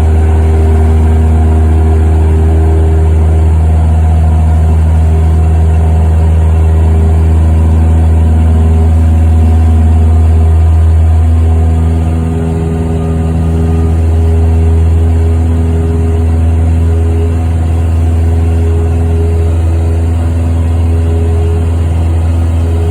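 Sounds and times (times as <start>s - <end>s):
propeller plane engine drone: 0.0s - 22.9s.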